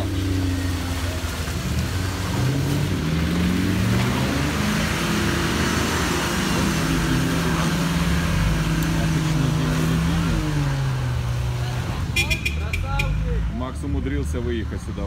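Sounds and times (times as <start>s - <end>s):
off-road engine revving under load: 0.0s - 15.0s.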